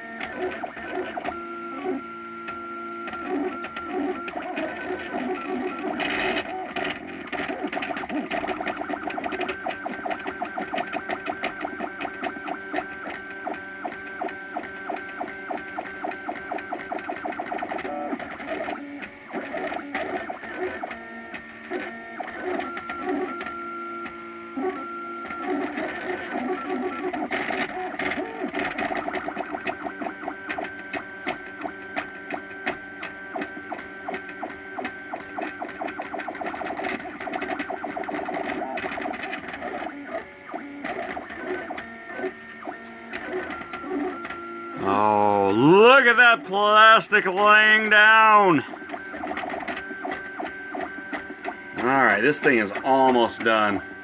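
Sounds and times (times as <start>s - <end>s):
printer stepper motors whining: 0.0s - 54.0s.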